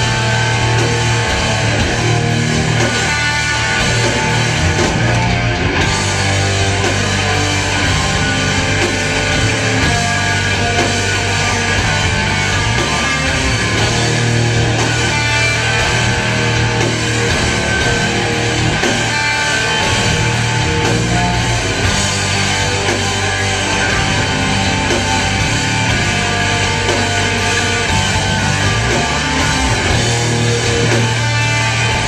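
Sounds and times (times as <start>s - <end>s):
electric guitars: 0.0s - 32.0s
low bass notes: 0.0s - 32.0s.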